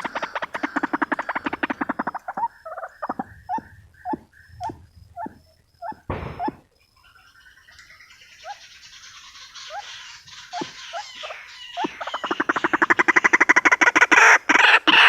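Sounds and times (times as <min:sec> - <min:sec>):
waterhen croaking calls: 0:00.0 - 0:06.7, 0:08.4 - 0:15.0.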